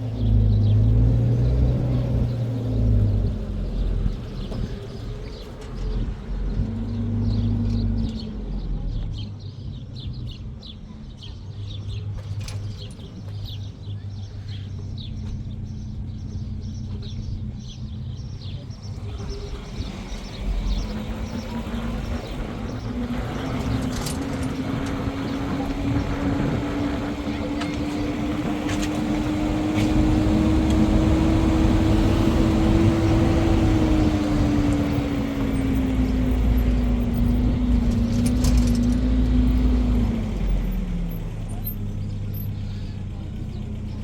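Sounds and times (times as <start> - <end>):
birds chirping: 0.0 - 44.0
engine humming: 0.0 - 44.0.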